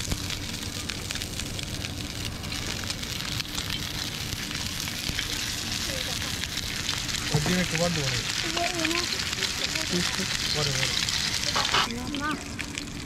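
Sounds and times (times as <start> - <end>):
low steady hum: 0.0 - 13.0
tomatoes sizzling in a frying pan: 0.0 - 13.0.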